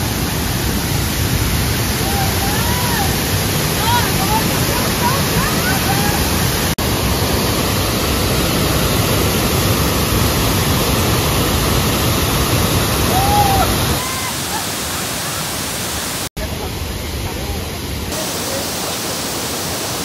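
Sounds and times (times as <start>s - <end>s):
water crashing over spillway: 0.0s - 20.0s.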